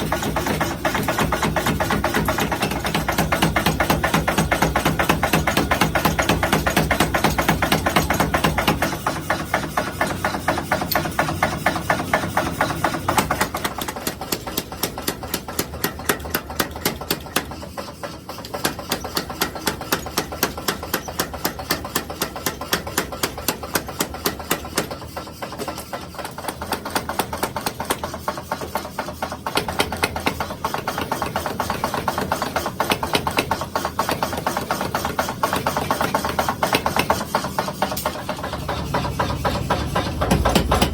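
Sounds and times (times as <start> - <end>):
power hammer striking hot steel: 0.0 - 40.9.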